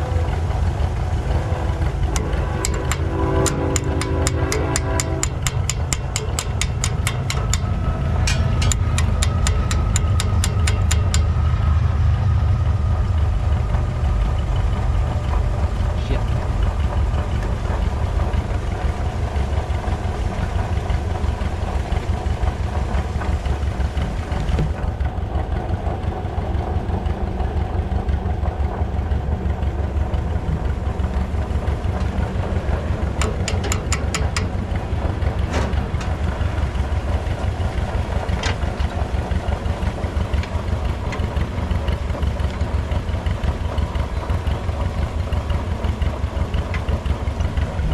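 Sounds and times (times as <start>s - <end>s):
tractor engine idling: 0.0s - 47.9s
rapid ticking: 1.8s - 11.6s, 12.7s - 47.9s.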